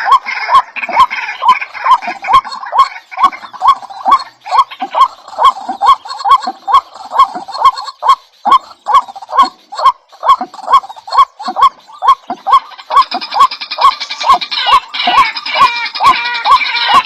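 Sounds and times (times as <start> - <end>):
bird calling with sharp clicks: 0.0 - 17.0.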